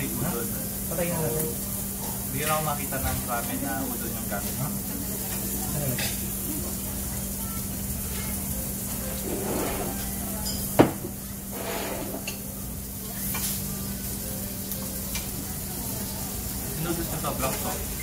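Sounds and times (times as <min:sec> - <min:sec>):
background hum and hiss: 0:00.0 - 0:18.0.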